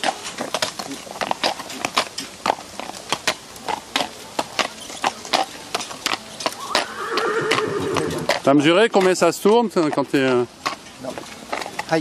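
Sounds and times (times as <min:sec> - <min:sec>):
horse hooves clopping on asphalt: 0:00.0 - 0:12.0.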